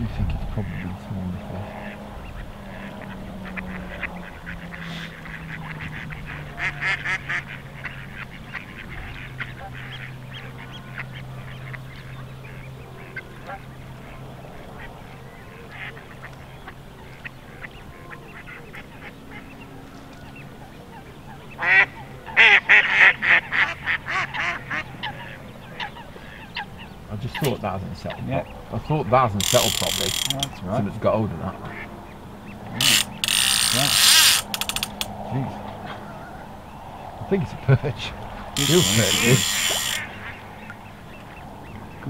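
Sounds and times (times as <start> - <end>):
waterfowl calling: 0.0 - 42.0.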